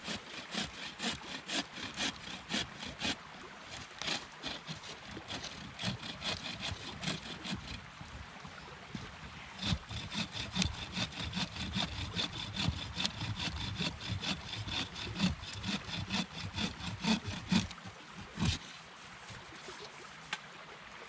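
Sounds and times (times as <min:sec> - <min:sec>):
hand saw cutting wood: 0:00.0 - 0:07.8, 0:09.6 - 0:18.8.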